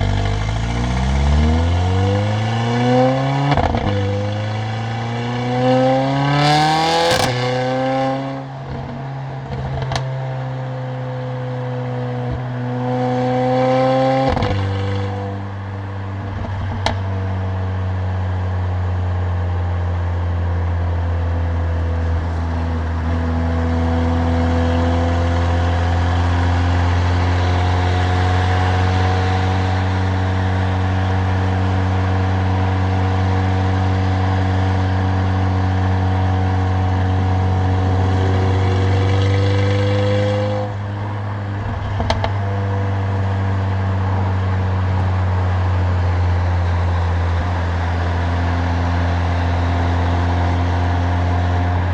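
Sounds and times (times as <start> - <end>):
car engine droning with loud exhaust: 0.0 - 51.9.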